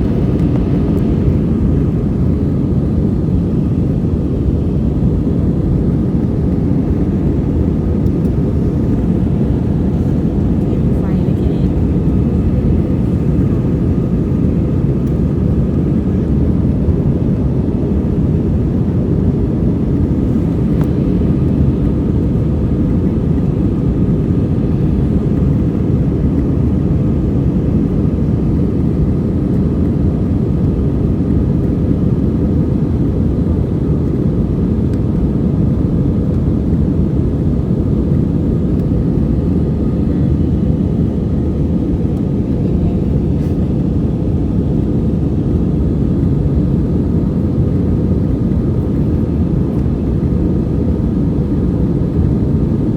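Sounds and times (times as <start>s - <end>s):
jet cabin engine rumble: 0.0s - 52.9s.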